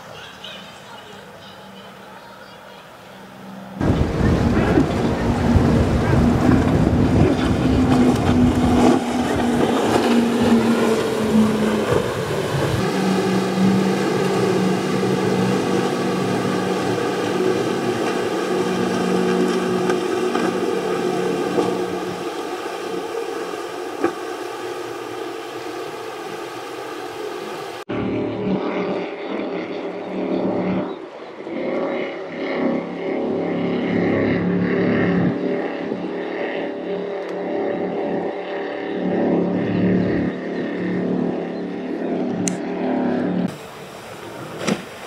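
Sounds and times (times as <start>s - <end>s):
motorboat engines droning: 0.0s - 45.0s
wind buffeting microphone: 3.8s - 42.6s.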